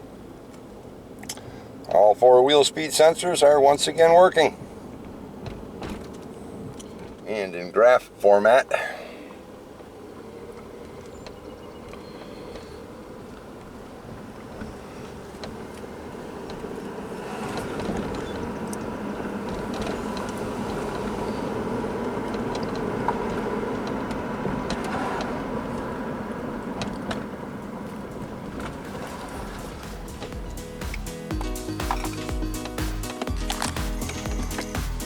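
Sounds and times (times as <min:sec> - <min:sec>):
car engine and road noise: 0:00.0 - 0:35.0.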